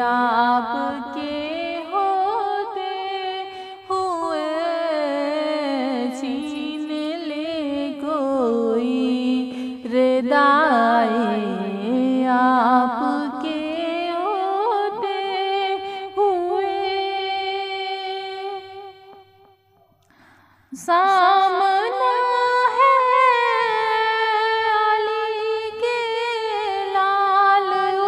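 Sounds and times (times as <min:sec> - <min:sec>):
woman singing: 0:00.0 - 0:19.2, 0:20.7 - 0:28.0.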